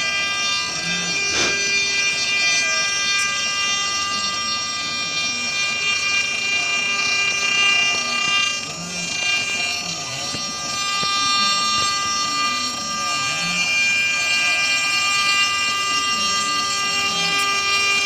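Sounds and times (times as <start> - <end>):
milling spindle whine: 0.0 - 18.0.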